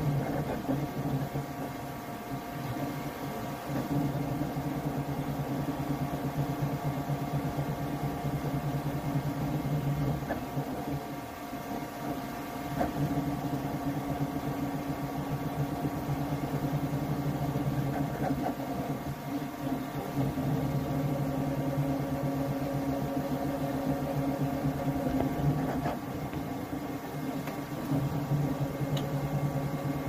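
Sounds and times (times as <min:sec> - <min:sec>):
cooling fans whirring: 0:00.0 - 0:30.0
stepper motors humming and buzzing: 0:00.0 - 0:30.0.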